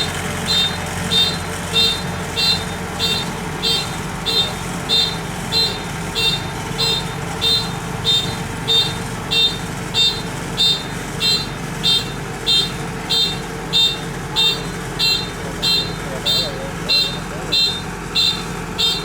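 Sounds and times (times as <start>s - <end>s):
harvester engine running: 0.0s - 19.0s
reversing warning beeper: 0.0s - 19.0s.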